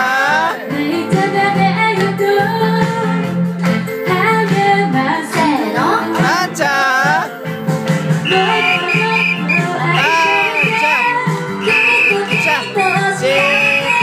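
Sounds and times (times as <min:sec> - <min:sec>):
women singing pop song: 0:00.0 - 0:07.3, 0:08.2 - 0:14.0
instrumental music: 0:00.0 - 0:14.0.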